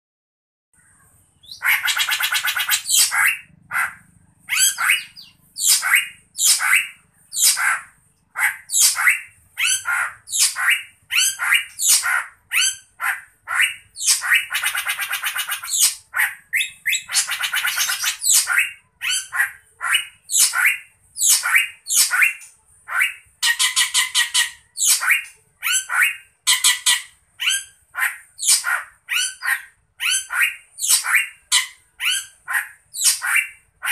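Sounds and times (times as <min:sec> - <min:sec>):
harsh bird calls: 0:00.8 - 0:33.9
bird calling loudly: 0:01.4 - 0:33.9.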